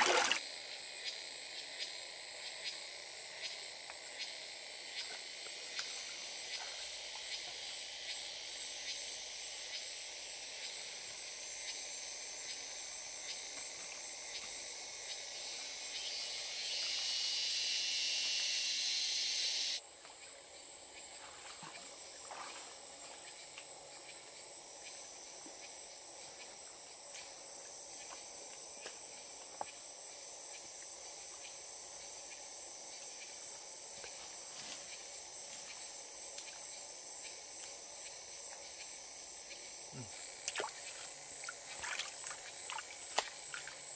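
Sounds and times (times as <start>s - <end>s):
hissing insect chorus: 0.0s - 43.9s
insects droning: 0.0s - 43.9s.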